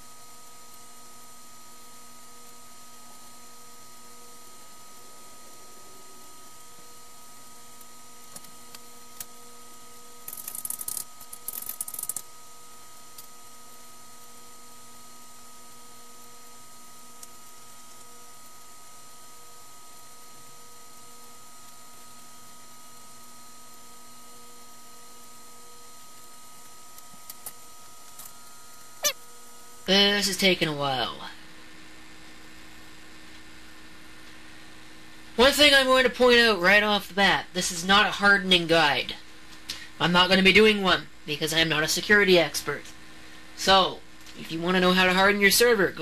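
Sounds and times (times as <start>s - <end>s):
computer hum and hiss: 0.0s - 46.0s.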